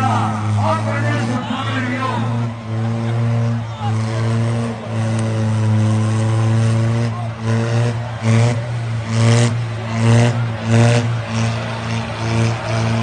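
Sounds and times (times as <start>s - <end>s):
diesel tractor engine revving: 0.0s - 13.0s.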